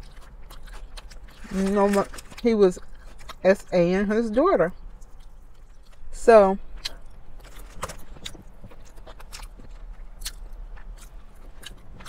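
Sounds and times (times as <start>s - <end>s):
person chewing fried chicken: 0.0s - 3.4s, 4.8s - 12.0s.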